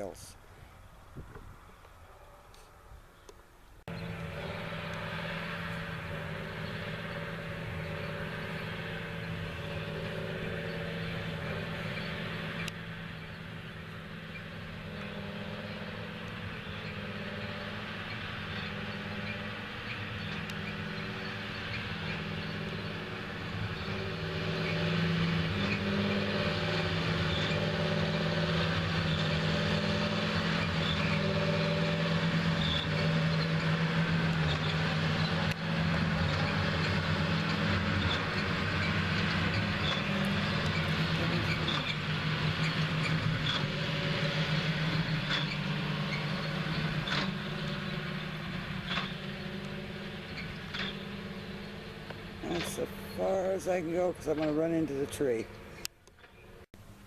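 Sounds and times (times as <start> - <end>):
tractor engine under load: 3.8 - 57.0
baler machinery clattering: 3.9 - 56.6.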